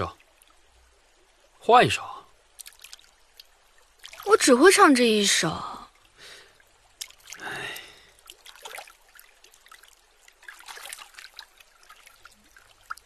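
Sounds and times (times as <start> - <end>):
water dripping around oar: 0.0 - 13.0.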